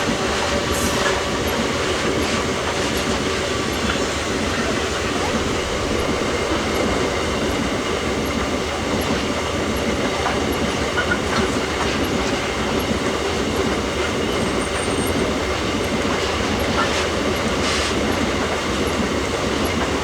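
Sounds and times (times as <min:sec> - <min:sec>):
clickety-clack over rail joints: 0:00.0 - 0:20.0
freight train wheels rumbling: 0:00.0 - 0:20.0.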